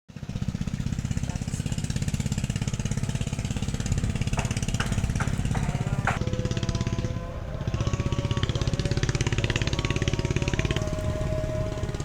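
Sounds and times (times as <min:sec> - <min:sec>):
engine idling: 0:00.1 - 0:12.0.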